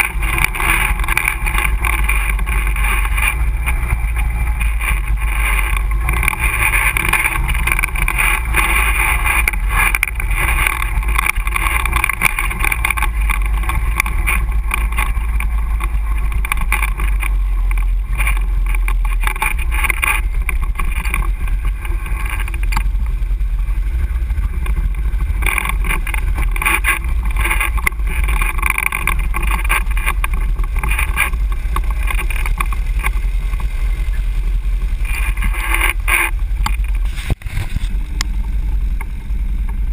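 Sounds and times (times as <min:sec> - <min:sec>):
atv engine running: 0:00.0 - 0:39.9
knocks and rattles: 0:00.0 - 0:39.9.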